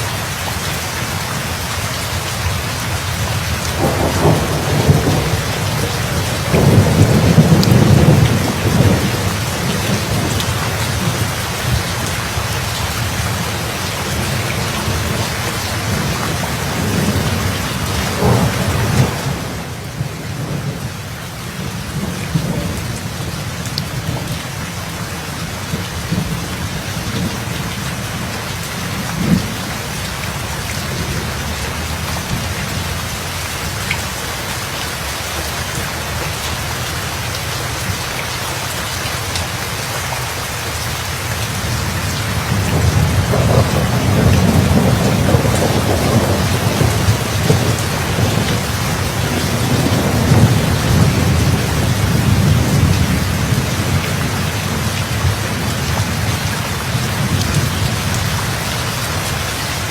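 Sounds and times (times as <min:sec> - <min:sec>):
steady rain falling: 0:00.0 - 0:59.9
rolling thunder rumbles: 0:02.4 - 0:34.0, 0:41.2 - 0:59.9.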